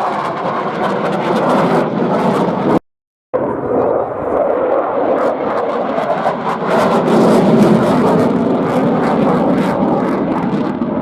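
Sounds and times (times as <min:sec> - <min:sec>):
fighter jet roaring past: 0:00.0 - 0:02.8, 0:03.4 - 0:11.0.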